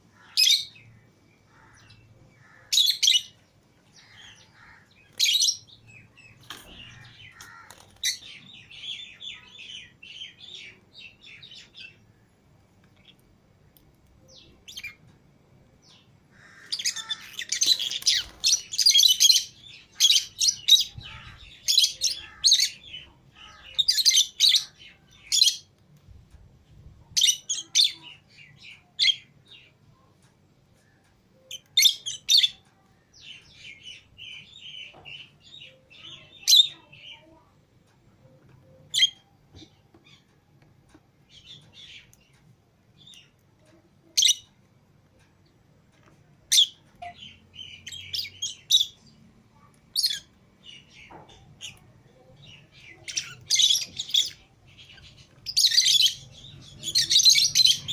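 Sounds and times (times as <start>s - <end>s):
lovebirds chirping and calling: 0.0s - 37.5s, 38.2s - 57.9s.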